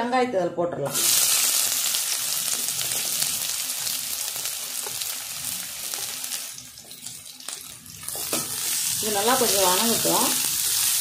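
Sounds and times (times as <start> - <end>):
onions sizzling in hot oil: 0.9 - 11.0.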